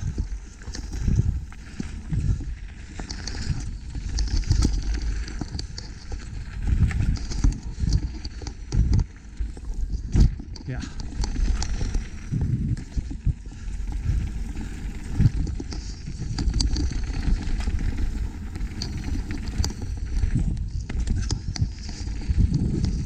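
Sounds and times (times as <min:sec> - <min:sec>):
bike rattling and knocking: 0:00.0 - 0:23.0
tyres rumbling over rough ground: 0:00.0 - 0:23.0.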